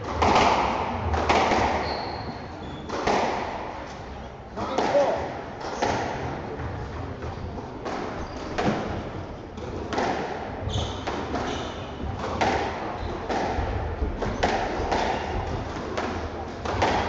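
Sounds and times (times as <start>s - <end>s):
ball hitting court walls: 0.0s - 3.8s, 4.6s - 6.8s, 7.8s - 17.0s
squash racket hits: 0.0s - 17.0s.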